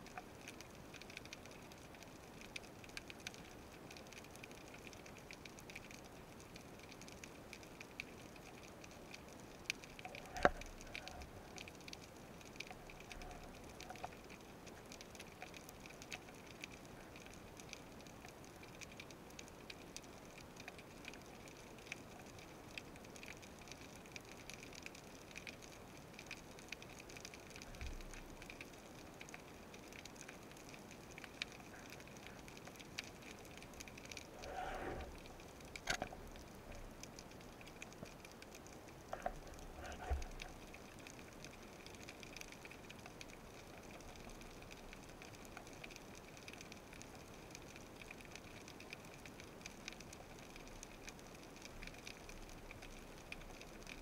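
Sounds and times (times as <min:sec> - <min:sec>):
underwater crackle of tiny clicks: 0:00.0 - 0:54.0.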